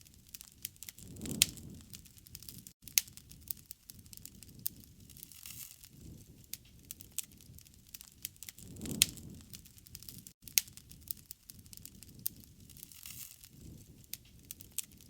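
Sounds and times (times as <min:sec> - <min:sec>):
campfire crackling: 0:00.0 - 0:15.0
fire pops and snaps: 0:00.0 - 0:15.0
rustle of flames: 0:00.0 - 0:15.0.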